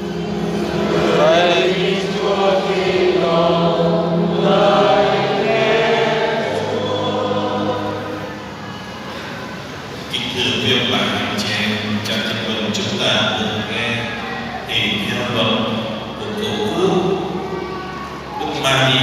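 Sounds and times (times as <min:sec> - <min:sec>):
low accompanying drone: 0:00.0 - 0:19.0
voices chanting a hymn: 0:00.0 - 0:19.0.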